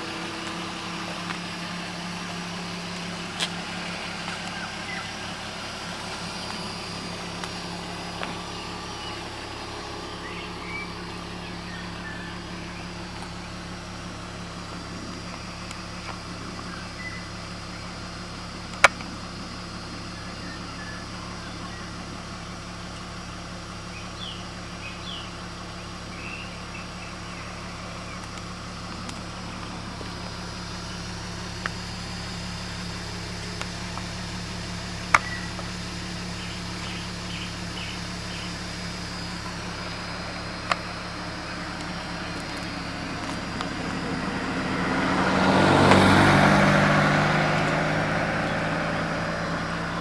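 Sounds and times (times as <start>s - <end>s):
car engine idling: 0.0s - 50.0s
faint bird chirps: 1.6s - 18.0s, 19.2s - 44.5s.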